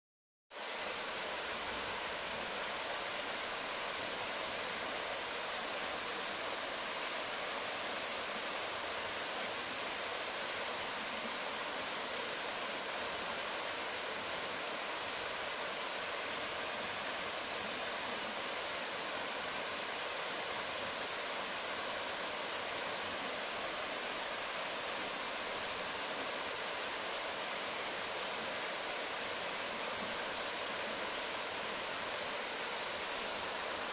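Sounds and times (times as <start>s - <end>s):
water rushing over boulders: 0.6s - 33.9s.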